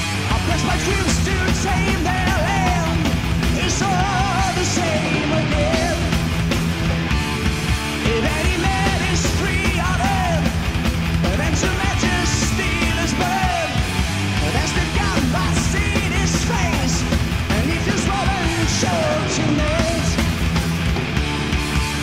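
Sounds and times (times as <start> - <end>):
heavy metal band playing: 0.0 - 22.0.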